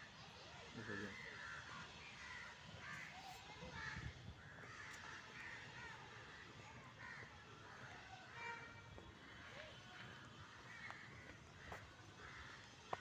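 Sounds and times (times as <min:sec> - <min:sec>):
crows cawing: 0:00.8 - 0:08.4, 0:09.2 - 0:13.0.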